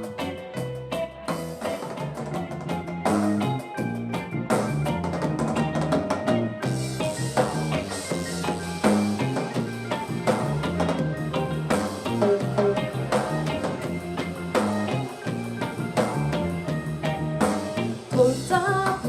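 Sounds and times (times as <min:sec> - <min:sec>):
reggae band playing: 0:00.0 - 0:19.0.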